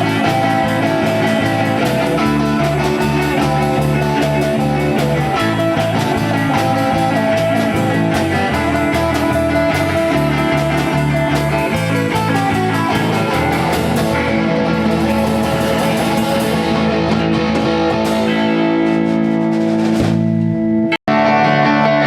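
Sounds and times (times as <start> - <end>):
electric guitar: 0.0 - 22.0
rock band instrumental: 0.0 - 22.0.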